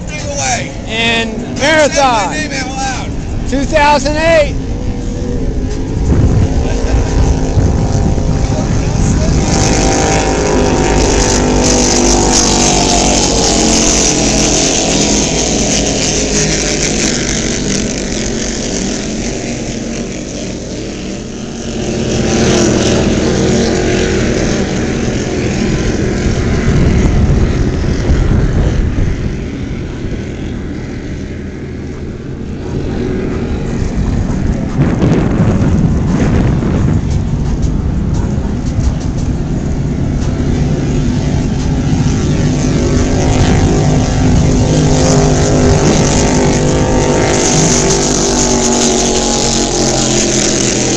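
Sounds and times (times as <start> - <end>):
powerboat engines roaring: 0.0 - 50.9
wind and water rushing: 0.0 - 50.9.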